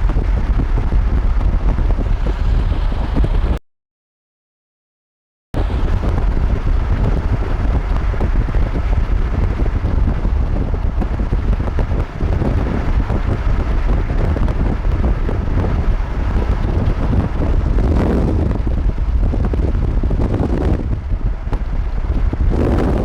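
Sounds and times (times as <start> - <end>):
wind buffeting microphone: 0.0 - 3.6, 5.6 - 23.0.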